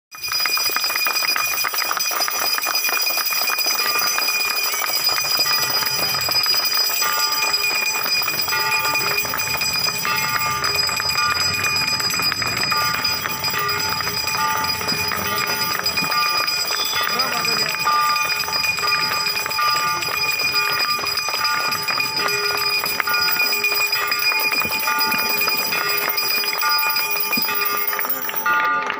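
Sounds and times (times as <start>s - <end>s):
bells ringing: 0.1s - 28.9s.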